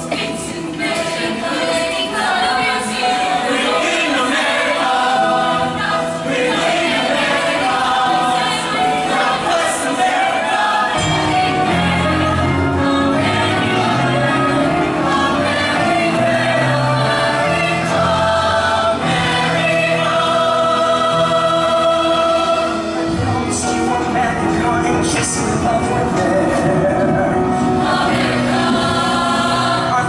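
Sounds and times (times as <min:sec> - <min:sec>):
choir singing in parts: 0:00.0 - 0:24.3, 0:25.6 - 0:30.0
musical accompaniment: 0:00.0 - 0:30.0.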